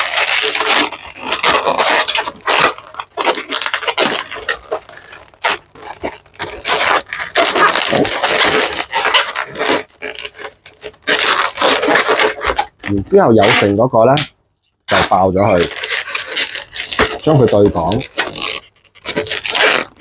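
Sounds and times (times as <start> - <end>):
balloons squeaking and rubbing: 0.0 - 20.0.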